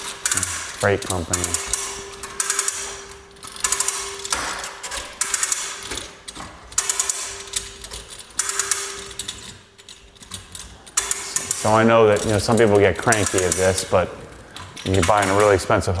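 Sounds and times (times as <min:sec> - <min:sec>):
cord reel drum turning: 0:00.0 - 0:16.0
ratchet clicking rapidly: 0:00.0 - 0:16.0.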